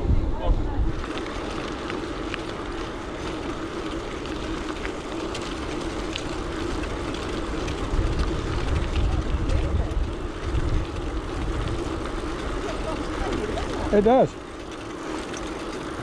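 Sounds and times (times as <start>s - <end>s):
bike tyres humming on road: 0.0s - 16.0s.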